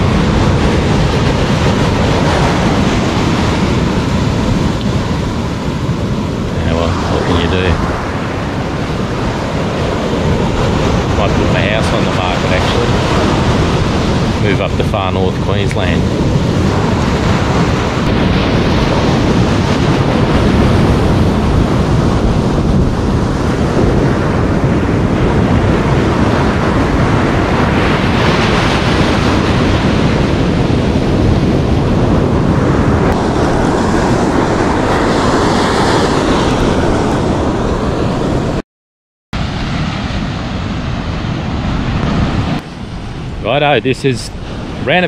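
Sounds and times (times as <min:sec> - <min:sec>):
ocean surf breaking: 0:00.0 - 0:38.6, 0:39.4 - 0:45.0
wind buffeting microphone: 0:00.0 - 0:38.6, 0:39.4 - 0:45.0.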